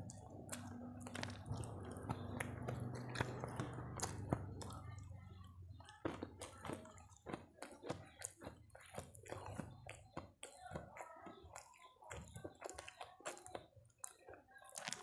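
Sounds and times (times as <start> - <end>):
wet mouth sounds: 0.0 - 5.0, 5.8 - 15.0
person chewing crunchy food: 0.0 - 15.0.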